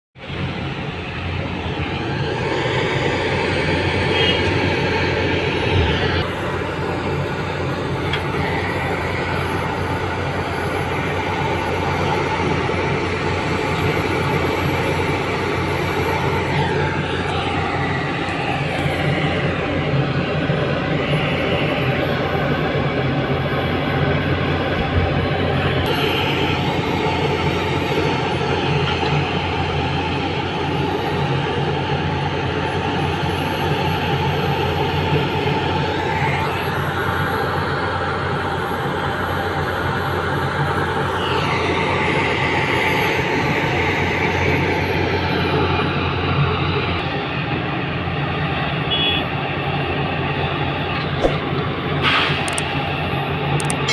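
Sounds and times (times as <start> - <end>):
excavator diesel engine under load: 0.2 - 53.9.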